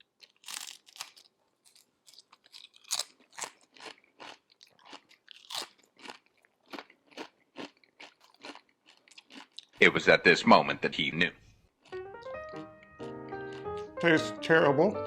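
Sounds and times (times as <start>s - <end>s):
person crunching chips: 0.0s - 9.8s, 11.7s - 14.3s.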